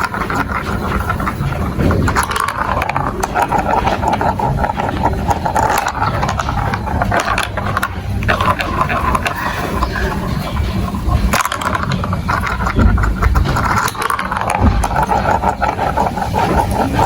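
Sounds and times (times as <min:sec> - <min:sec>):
marbles rattling through marble run: 0:00.0 - 0:17.0.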